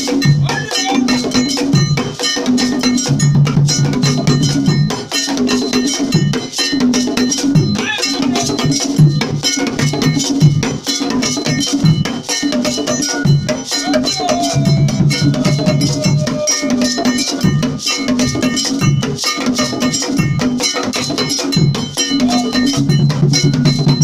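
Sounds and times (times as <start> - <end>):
clanging iron bells: 0.0 - 24.0.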